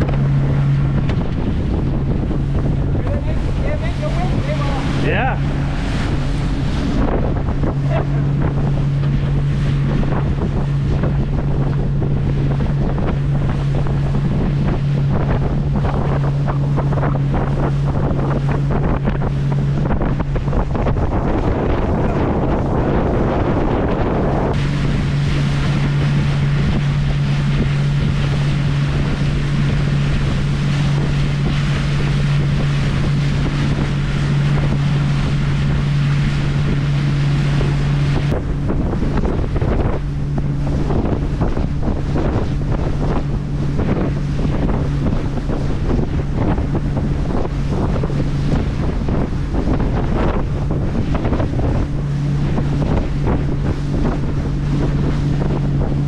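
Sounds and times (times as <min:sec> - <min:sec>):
boat engine humming: 0:00.0 - 0:56.0
water rushing past: 0:00.0 - 0:56.0
wind buffeting microphone: 0:00.0 - 0:56.0.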